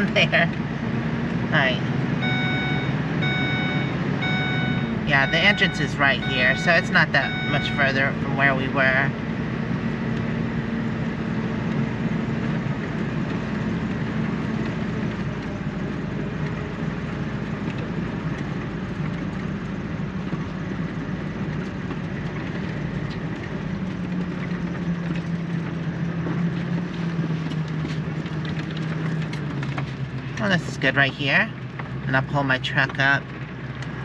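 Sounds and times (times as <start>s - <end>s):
engine hum: 0.0s - 34.0s
tyre and road noise: 0.0s - 34.0s.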